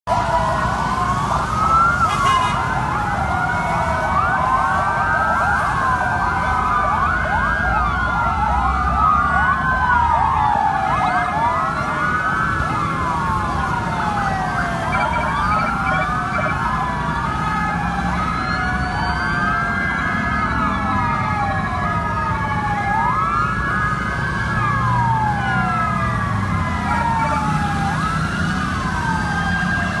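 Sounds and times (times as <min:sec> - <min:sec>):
ambulance sirens wailing: 0:00.0 - 0:30.0.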